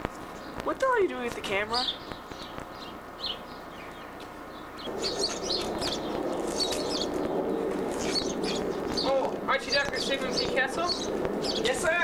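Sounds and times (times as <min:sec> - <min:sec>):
outdoor background hum: 0:00.0 - 0:12.0
small birds chirping: 0:00.0 - 0:12.0.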